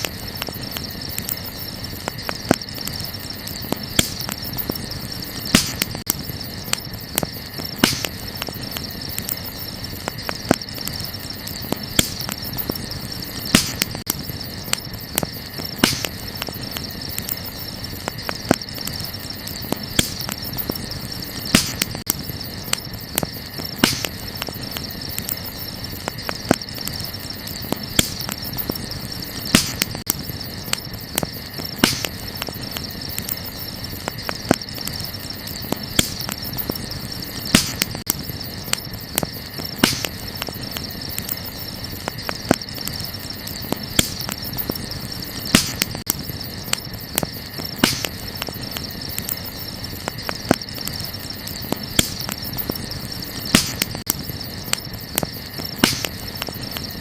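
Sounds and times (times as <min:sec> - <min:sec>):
night insects chirring: 0:00.0 - 0:57.0
wood fire crackling and popping: 0:00.0 - 0:57.0.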